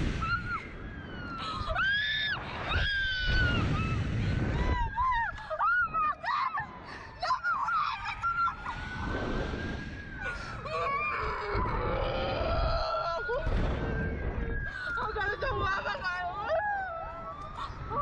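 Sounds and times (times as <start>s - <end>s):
wind on microphone: 0.0s - 18.0s
women screaming: 0.2s - 18.0s.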